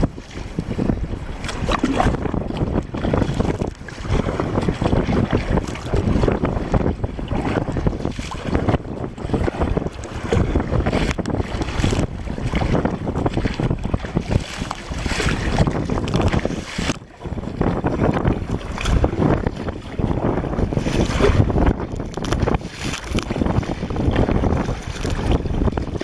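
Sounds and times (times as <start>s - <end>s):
water sloshing around kayak: 0.0s - 26.0s
wind buffeting microphone: 0.0s - 26.0s.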